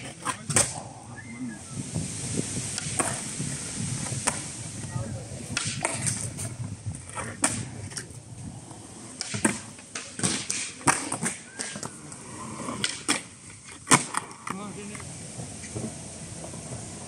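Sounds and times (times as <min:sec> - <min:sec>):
skateboard clacks: 0:00.0 - 0:00.9, 0:02.7 - 0:17.0
skateboard grinding on ledge: 0:00.0 - 0:01.1, 0:01.9 - 0:17.0
skateboard rolling on concrete: 0:00.0 - 0:17.0.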